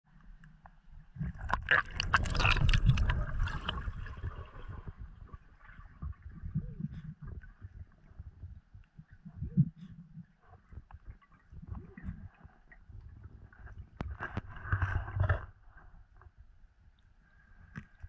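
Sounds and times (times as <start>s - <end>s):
underwater bubbling: 1.0s - 16.0s.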